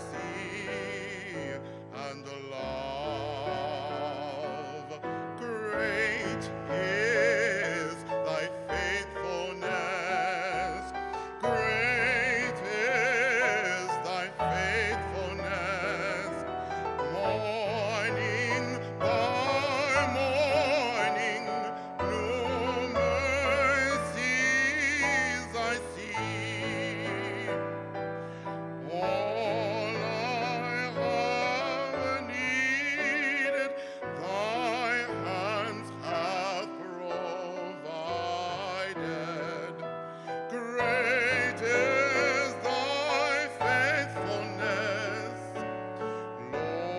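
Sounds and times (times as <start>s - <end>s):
man singing with vibrato: 0.0s - 46.9s.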